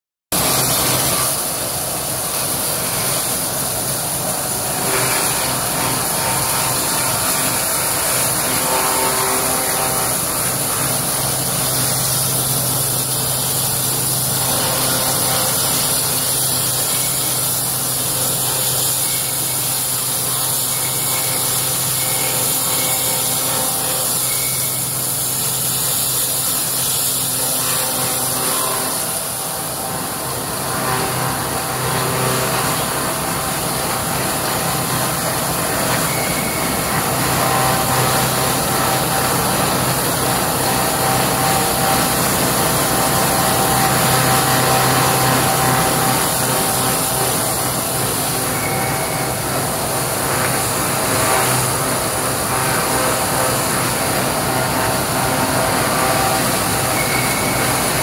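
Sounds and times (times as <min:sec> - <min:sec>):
wood shredder running: 0:00.4 - 0:58.0.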